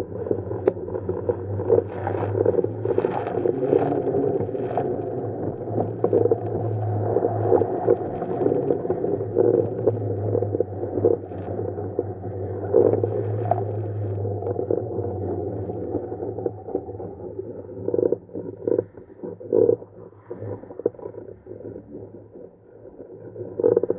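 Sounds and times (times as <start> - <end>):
steady low hum: 0.0 - 23.9
water splashing against hull: 0.0 - 23.9.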